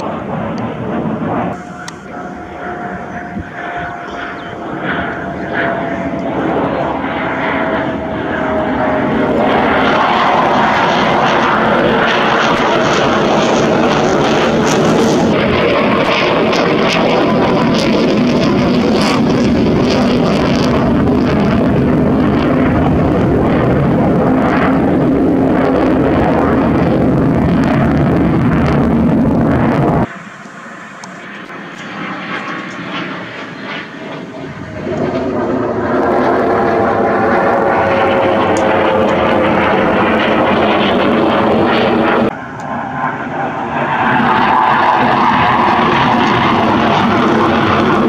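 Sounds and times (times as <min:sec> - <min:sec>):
jet fighter flying overhead: 0:00.0 - 0:48.0.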